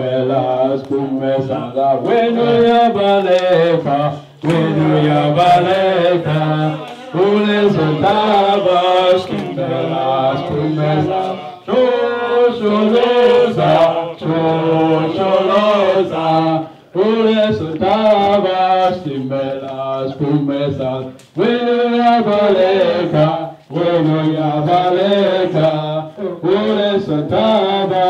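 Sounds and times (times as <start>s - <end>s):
group singing a chant-like song: 0.0s - 28.0s.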